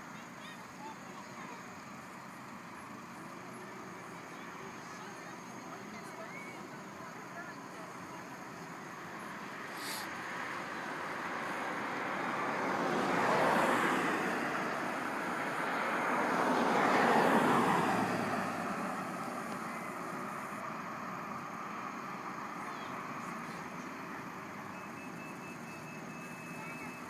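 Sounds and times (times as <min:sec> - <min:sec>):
road vehicles passing: 0:00.0 - 0:27.0
steady traffic noise: 0:00.0 - 0:27.0.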